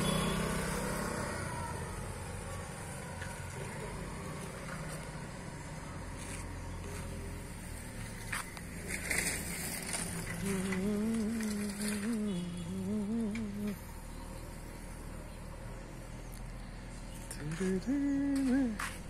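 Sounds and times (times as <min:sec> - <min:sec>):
low outdoor rumble: 0:00.0 - 0:19.0
vehicle engine running: 0:00.0 - 0:19.0.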